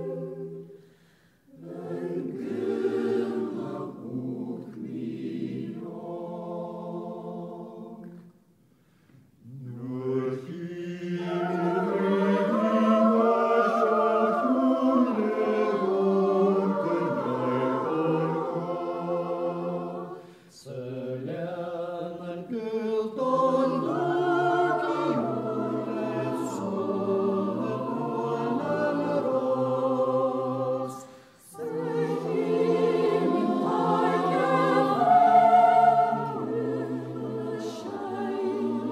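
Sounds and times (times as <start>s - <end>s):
choir singing long held notes: 0.0s - 8.3s, 9.4s - 38.9s.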